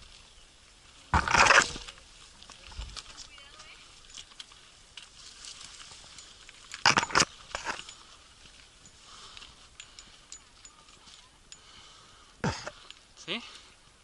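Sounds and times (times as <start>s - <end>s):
footsteps crunching on stony ground: 0.0s - 11.3s.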